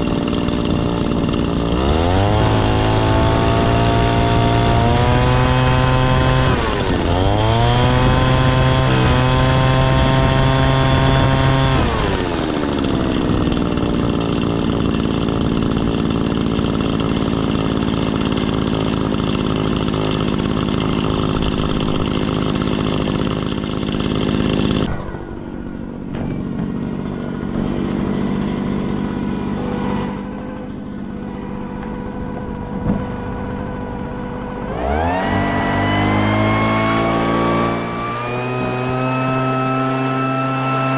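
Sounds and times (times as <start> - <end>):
leaf blower engine revving: 0.0 - 40.9.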